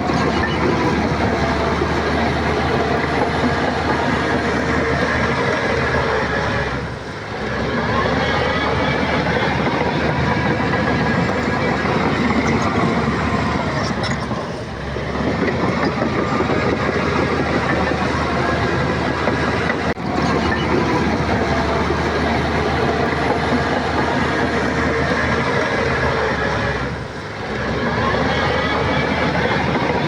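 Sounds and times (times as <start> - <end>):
bulldozer diesel engine under load: 0.0 - 30.0
steel tracks clattering: 0.0 - 30.0.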